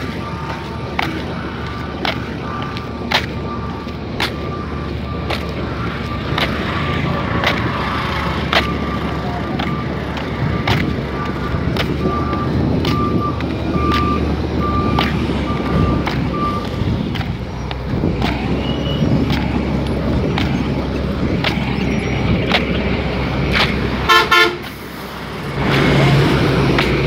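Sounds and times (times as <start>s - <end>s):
road vehicle rumble: 0.0s - 27.0s.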